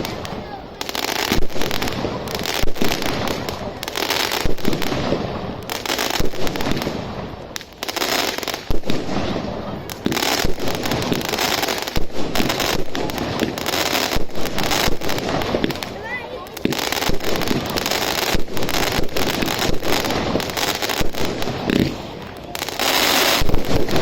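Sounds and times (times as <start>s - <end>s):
firework crackling hiss: 0.0s - 24.0s
firework launch bangs and bursts: 0.0s - 24.0s.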